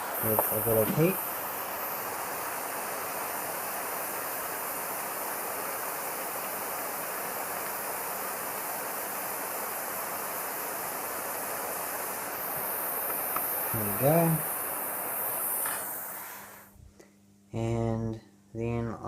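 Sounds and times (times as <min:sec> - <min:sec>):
heating tool hissing: 0:00.0 - 0:16.8.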